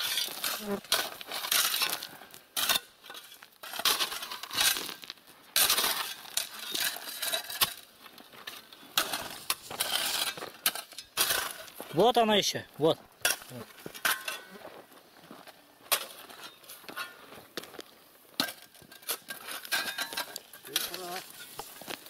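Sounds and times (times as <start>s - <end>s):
shovels scraping gravel: 0.0s - 22.0s.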